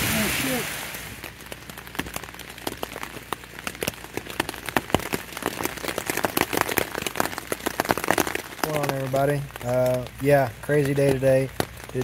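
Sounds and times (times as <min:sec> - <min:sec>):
raindrops tapping on tent fabric: 0:00.0 - 0:12.0.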